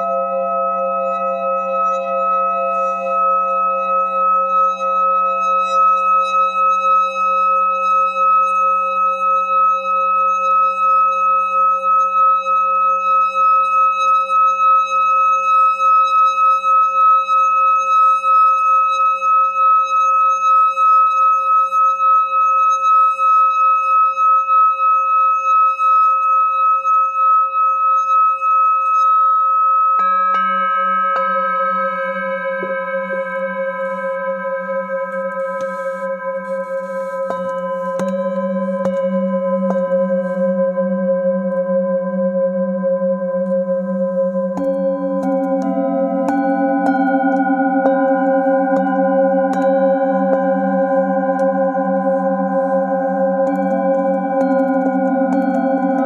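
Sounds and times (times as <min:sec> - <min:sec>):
singing bowl ringing: 0:00.0 - 0:56.0.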